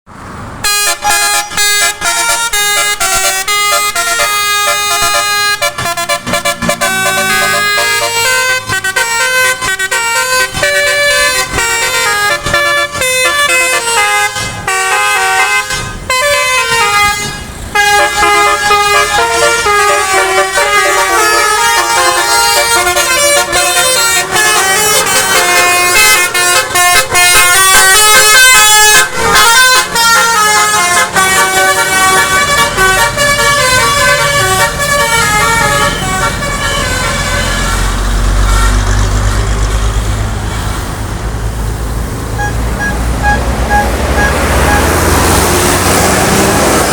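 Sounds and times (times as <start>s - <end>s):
multi-tone bus horns playing tunes: 0.6s - 40.9s, 42.2s - 46.9s.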